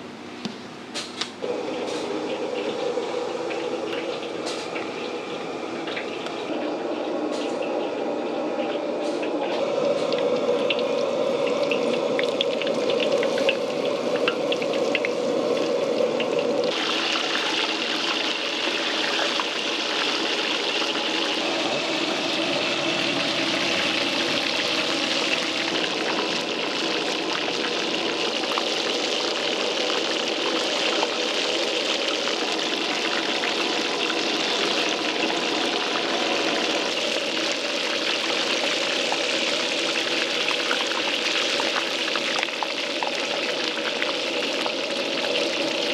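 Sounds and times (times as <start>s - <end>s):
oil sizzling and crackling: 1.4s - 45.9s.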